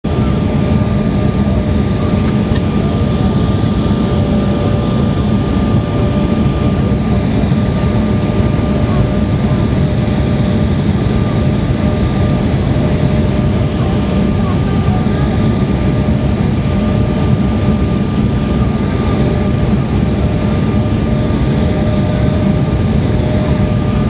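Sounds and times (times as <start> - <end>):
jet engine cabin rumble: 0.1 - 24.0.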